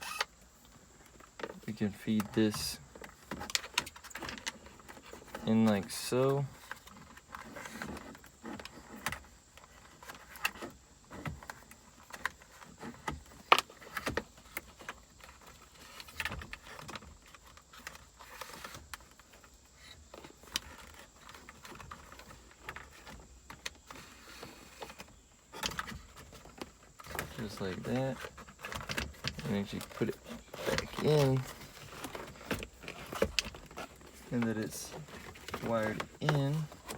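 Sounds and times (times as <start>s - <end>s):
cable and plastic panel rustles: 0.0s - 36.9s.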